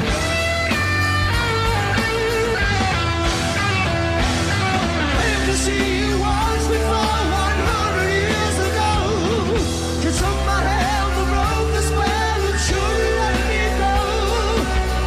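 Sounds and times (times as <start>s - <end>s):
hard rock band playing live: 0.0s - 15.0s.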